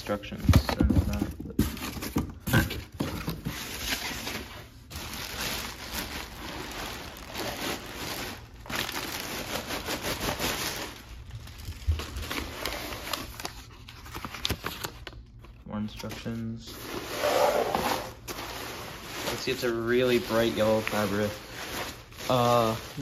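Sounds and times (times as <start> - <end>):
plastic bag crinkling: 3.6 - 16.1, 17.0 - 23.0.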